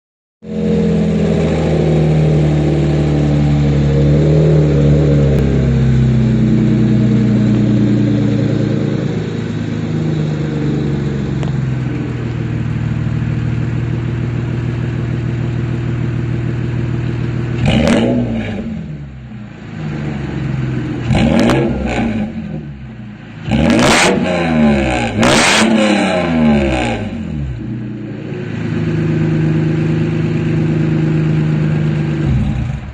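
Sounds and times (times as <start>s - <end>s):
truck engine idling and revving: 0.4s - 32.9s.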